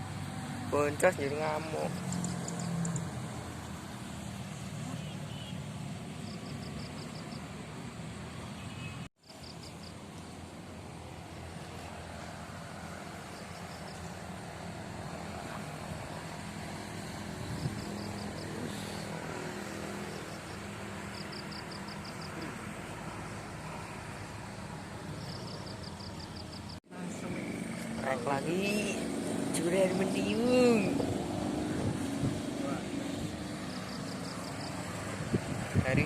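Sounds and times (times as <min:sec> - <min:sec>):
outdoor noise: 0:00.0 - 0:36.0.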